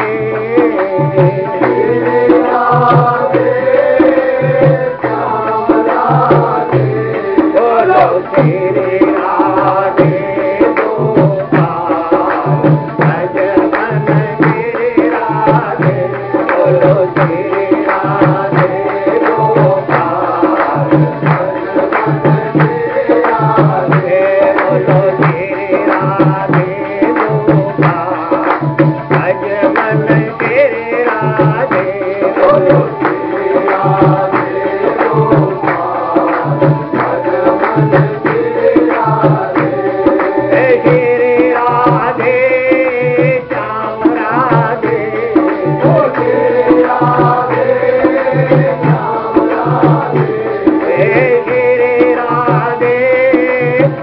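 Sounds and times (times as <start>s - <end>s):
devotional melody: 0.0s - 54.0s
hand drum steady beat: 0.0s - 54.0s.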